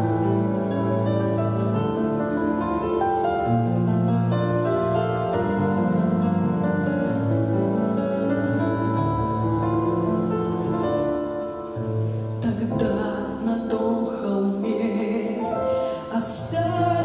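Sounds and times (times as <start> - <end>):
piano over held chords: 0.0 - 17.0.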